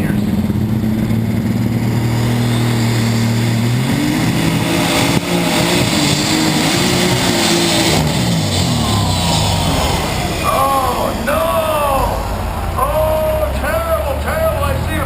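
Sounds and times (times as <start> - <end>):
tractor engine revving: 0.0 - 15.0.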